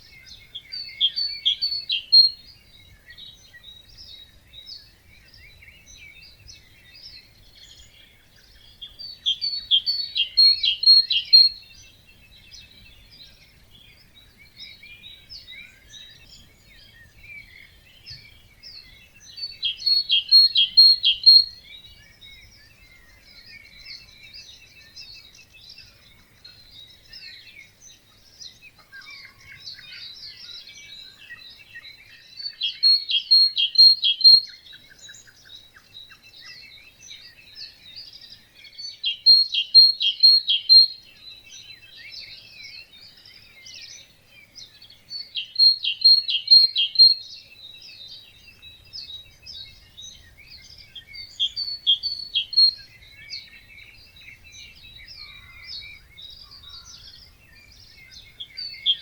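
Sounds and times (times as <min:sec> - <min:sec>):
bird repeating loud song: 0:00.0 - 0:02.5, 0:08.8 - 0:13.4, 0:14.0 - 0:25.0, 0:28.7 - 0:59.0
fainter bird songs and calls: 0:00.0 - 0:59.0.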